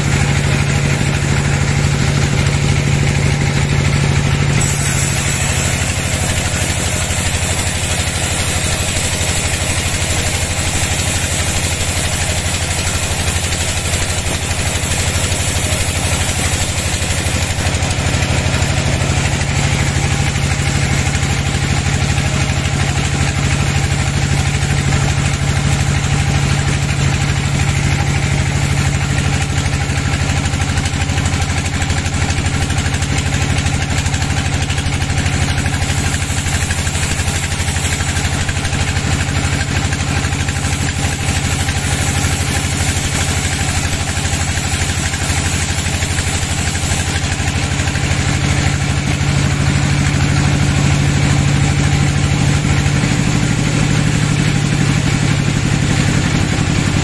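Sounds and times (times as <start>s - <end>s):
band saw cutting wood: 0.0s - 50.8s
low machine drone: 0.0s - 57.0s.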